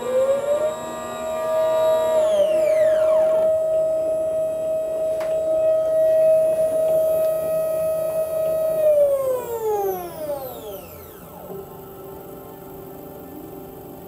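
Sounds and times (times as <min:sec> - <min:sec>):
stepper motor whine: 0:00.0 - 0:14.0.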